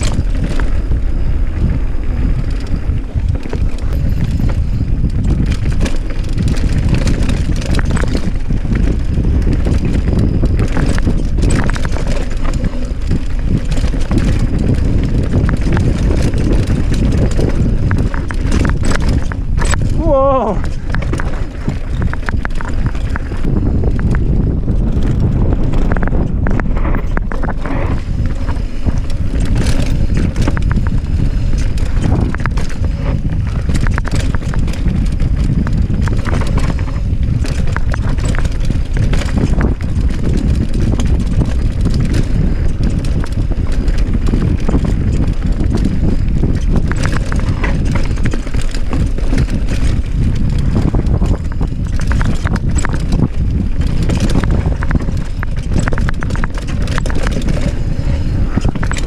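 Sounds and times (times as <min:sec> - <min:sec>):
bike rattling over rocks: 0:00.0 - 0:59.0
wind rumble on microphone: 0:00.0 - 0:59.0.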